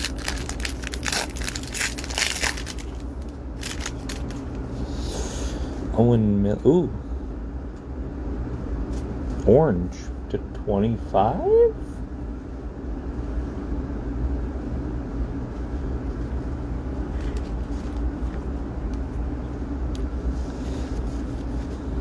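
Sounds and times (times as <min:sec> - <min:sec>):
low rumble with hum: 0:00.0 - 0:22.0.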